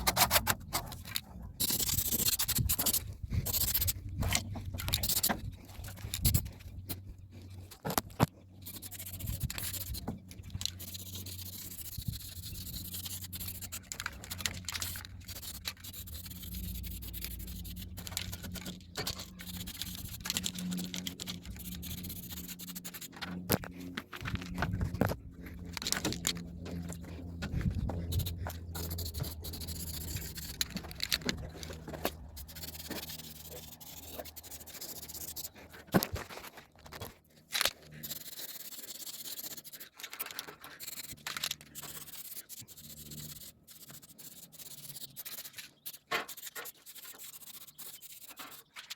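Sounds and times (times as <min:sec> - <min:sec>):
low steady hum: 0:00.0 - 0:45.9
scraping and handling noises: 0:00.0 - 0:48.9.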